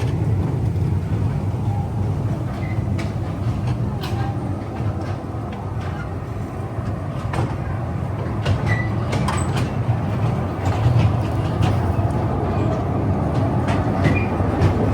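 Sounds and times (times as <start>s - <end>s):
small ride-on train rumbling: 0.0s - 14.9s.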